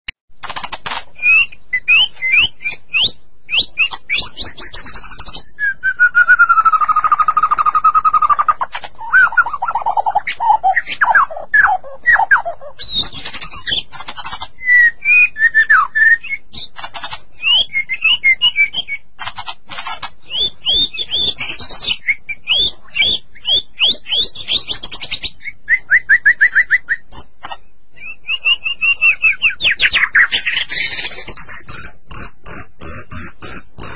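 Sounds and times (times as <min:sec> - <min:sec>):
bird singing varied song: 0:01.1 - 0:33.9.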